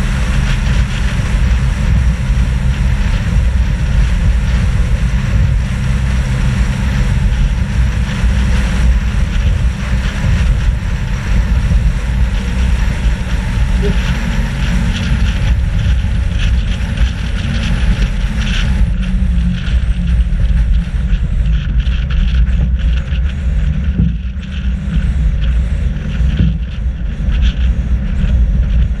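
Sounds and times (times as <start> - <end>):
vehicle engine and road rumble: 0.0 - 29.0
wind on microphone: 0.0 - 29.0.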